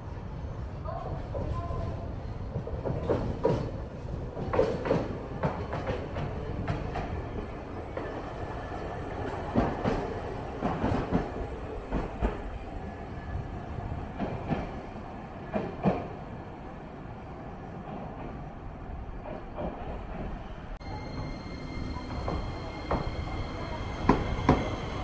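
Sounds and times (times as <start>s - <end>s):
streetcar rumbling on tracks: 0.0s - 25.0s.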